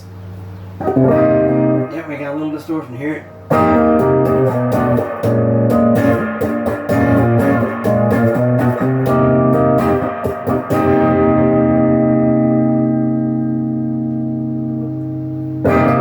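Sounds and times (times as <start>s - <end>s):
distorted electric guitar: 0.8s - 16.0s.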